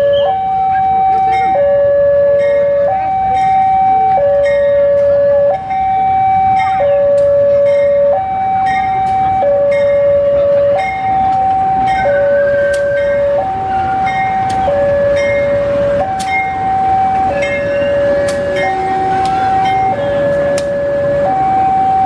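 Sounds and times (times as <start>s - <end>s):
train rumble: 0.0s - 22.0s
two-tone crossing alarm: 0.0s - 22.0s.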